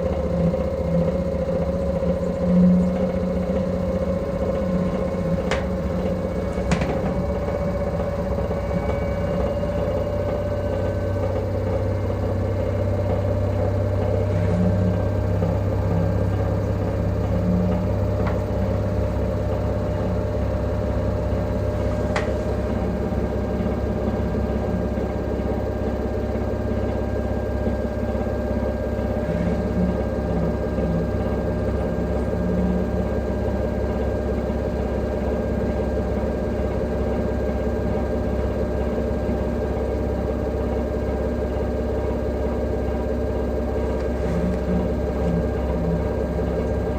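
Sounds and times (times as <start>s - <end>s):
washing machine spin cycle hum: 0.0s - 46.9s.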